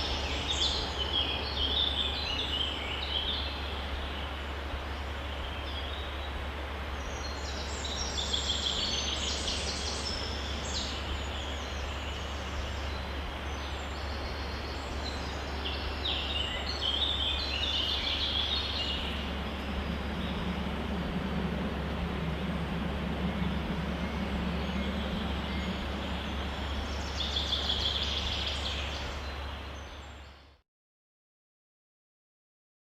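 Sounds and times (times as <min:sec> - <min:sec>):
low hum: 0:00.0 - 0:30.6.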